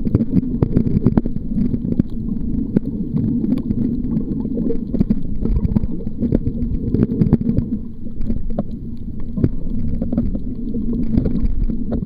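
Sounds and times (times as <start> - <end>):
muffled underwater rumble: 0.0 - 12.0
underwater clicks and crackles: 0.0 - 12.0.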